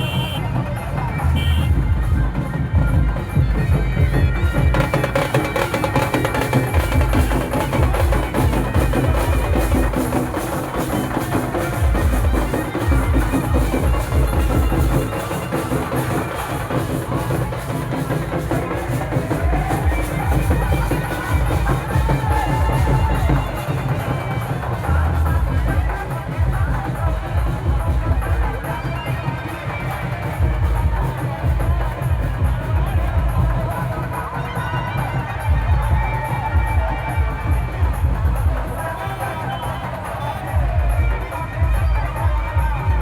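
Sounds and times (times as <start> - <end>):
festival song with heavy drumming: 0.0 - 43.0.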